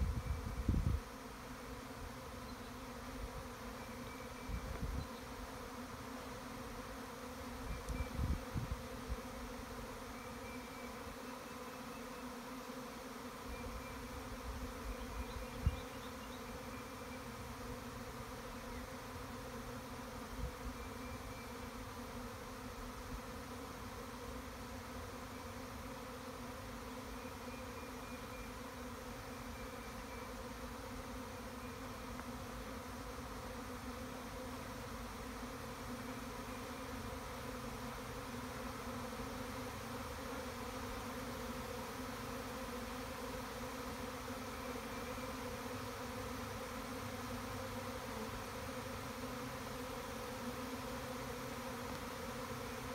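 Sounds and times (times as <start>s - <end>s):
bee swarm buzzing: 0.0s - 52.9s.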